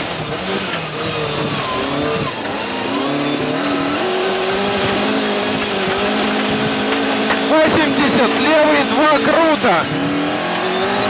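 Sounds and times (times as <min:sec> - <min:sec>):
rally car engine revving: 0:00.0 - 0:11.0
tyres on gravel: 0:00.0 - 0:11.0.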